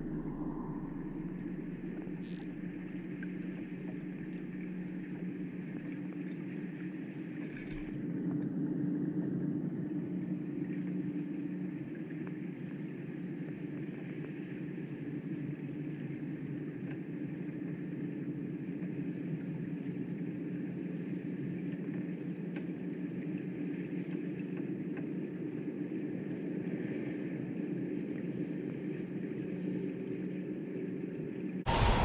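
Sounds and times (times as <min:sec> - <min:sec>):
muffled underwater hum: 0:00.0 - 0:32.0.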